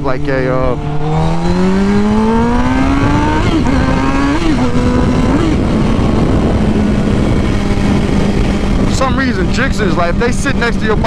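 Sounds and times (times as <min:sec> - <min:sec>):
motorcycle engine revving: 0:00.0 - 0:11.0
wind rumble on microphone: 0:00.0 - 0:11.0.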